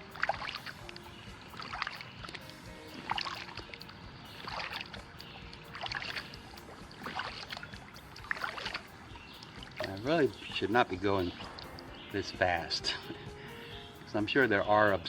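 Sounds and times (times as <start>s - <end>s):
kayak paddle splashing: 0.0s - 13.8s.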